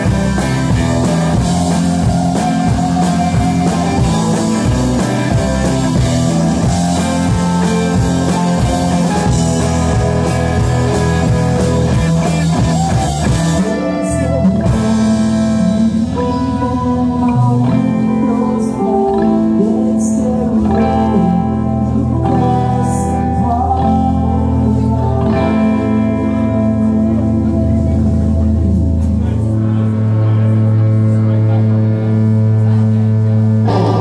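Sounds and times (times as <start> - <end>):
person singing: 0.0 - 30.6, 33.6 - 34.0
rock band playing: 0.0 - 34.0.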